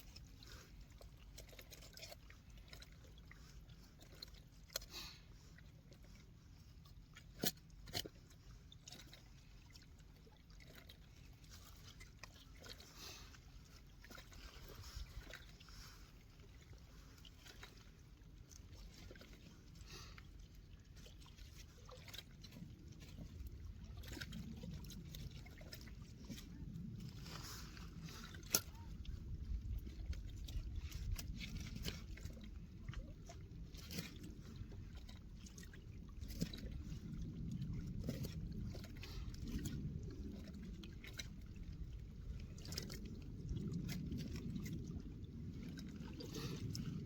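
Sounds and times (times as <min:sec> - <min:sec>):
water lapping and trickling: 0:00.0 - 0:47.0.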